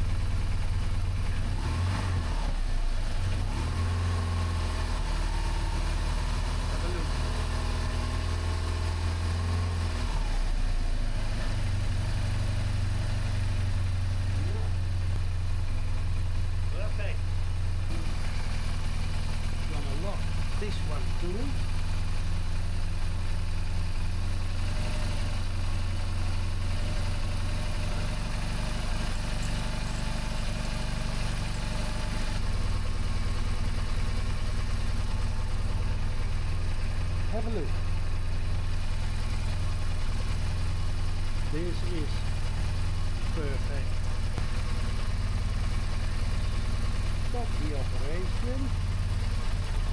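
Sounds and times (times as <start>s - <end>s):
motorcycle engine idling: 0.0s - 1.6s, 10.7s - 49.9s.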